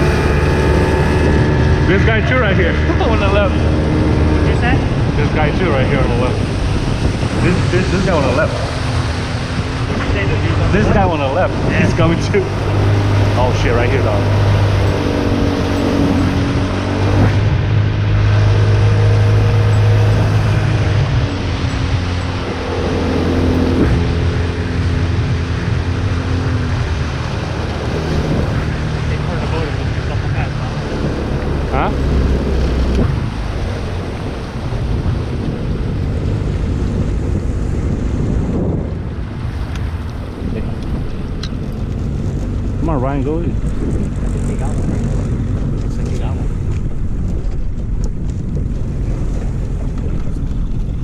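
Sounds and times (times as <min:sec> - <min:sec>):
boat engine hum: 0:00.0 - 0:51.0
wind and water rushing: 0:00.0 - 0:51.0.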